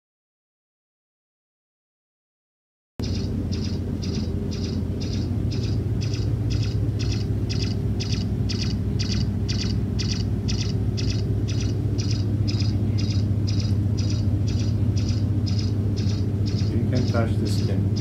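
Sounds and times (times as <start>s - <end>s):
steady low hum: 3.0s - 18.0s.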